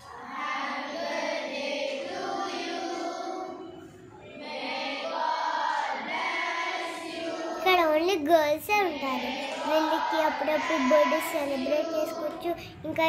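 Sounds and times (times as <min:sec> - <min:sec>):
girls singing in unison: 0:00.0 - 0:13.0.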